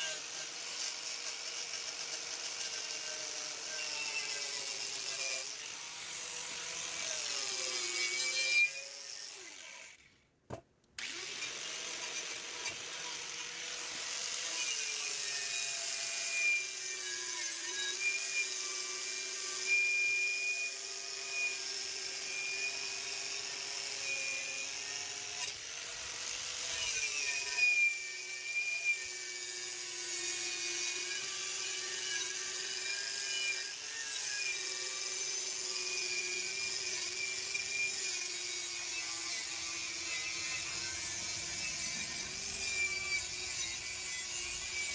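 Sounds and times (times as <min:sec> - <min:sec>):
table saw cutting wood: 0:00.0 - 0:10.0, 0:11.0 - 0:44.9.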